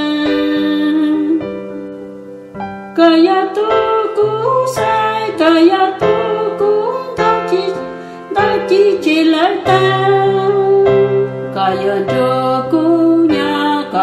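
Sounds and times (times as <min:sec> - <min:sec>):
keyboard chords: 0:00.0 - 0:14.0
person singing slow melody: 0:00.0 - 0:14.0.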